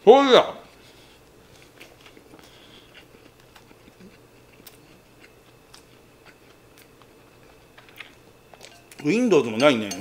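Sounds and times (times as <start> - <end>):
chewing rice: 0.7 - 10.0.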